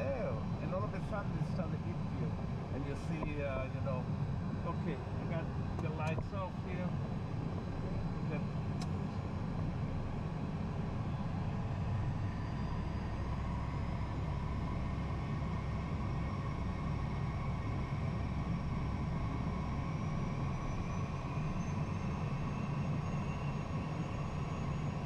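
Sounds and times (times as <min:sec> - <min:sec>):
faint rising whine: 0:00.0 - 0:25.0
jet engine and airflow rumble: 0:00.0 - 0:25.0.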